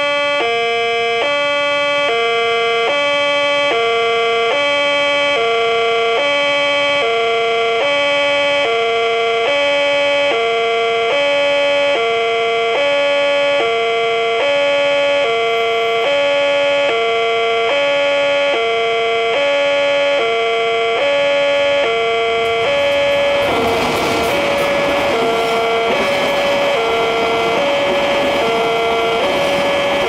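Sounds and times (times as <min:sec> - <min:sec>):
level crossing two-tone alarm: 0:00.0 - 0:30.0.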